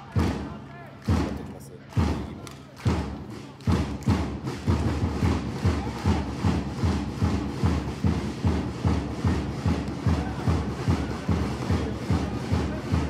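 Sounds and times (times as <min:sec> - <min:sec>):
drum beaten in steady rhythm: 0:00.0 - 0:13.0.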